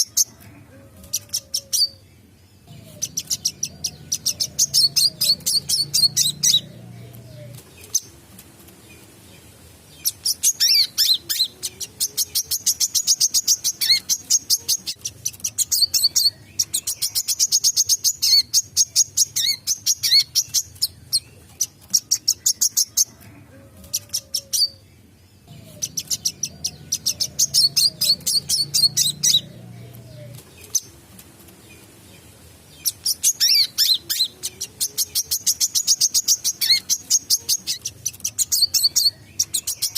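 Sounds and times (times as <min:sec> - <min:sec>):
sunbird singing high chirps: 0:01.1 - 0:08.2, 0:08.8 - 0:23.2, 0:23.9 - 0:31.0, 0:31.6 - 0:39.9.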